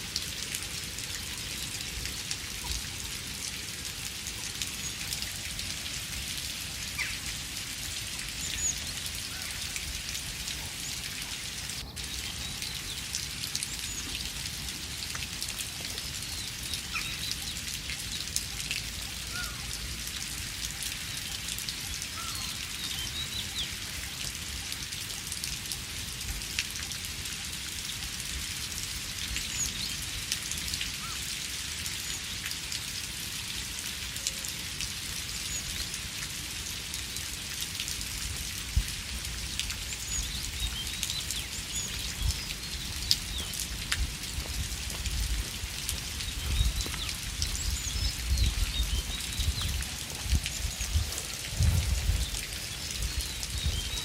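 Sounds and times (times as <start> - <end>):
steady rain with dripping: 0.0 - 54.0.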